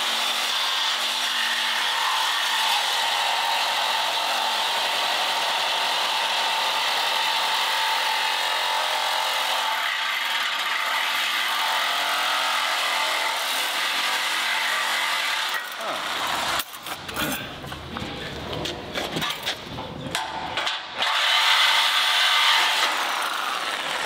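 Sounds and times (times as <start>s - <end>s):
grinder cutting metal: 0.0s - 16.9s, 21.0s - 24.0s.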